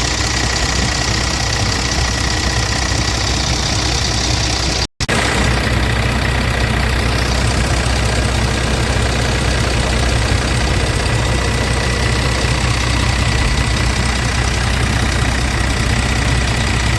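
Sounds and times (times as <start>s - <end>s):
diesel truck engine idling: 0.0s - 16.9s.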